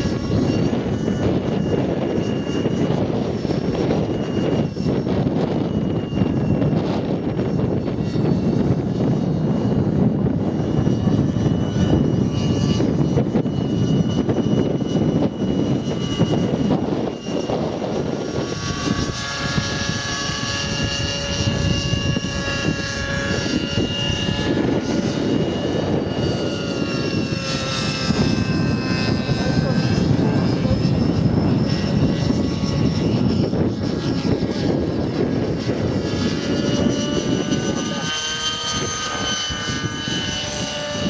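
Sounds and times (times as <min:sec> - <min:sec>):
helicopter rotor noise: 0:00.0 - 0:41.0
model helicopter engine whine: 0:00.0 - 0:41.0.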